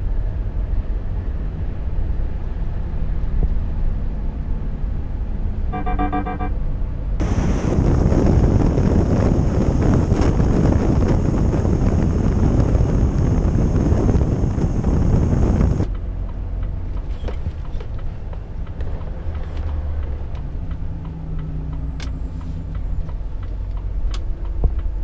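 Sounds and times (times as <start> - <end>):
road and wind noise: 0.0 - 25.0
truck engine rumble: 0.6 - 25.0.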